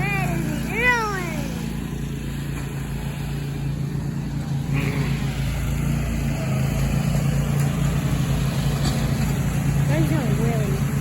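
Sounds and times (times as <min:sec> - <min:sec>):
riding lawn mower engine: 0:00.0 - 0:11.0.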